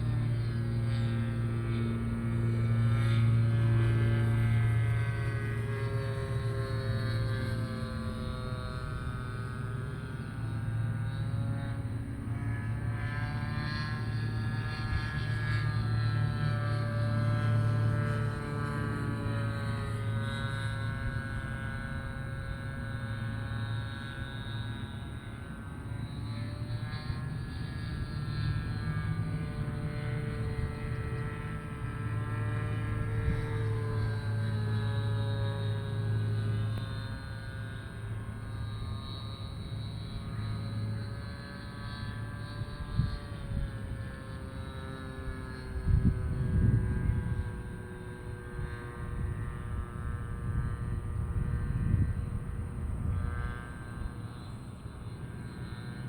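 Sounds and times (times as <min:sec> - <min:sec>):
model airplane engine running: 0:00.0 - 0:56.0
steady low hum: 0:00.0 - 0:56.0.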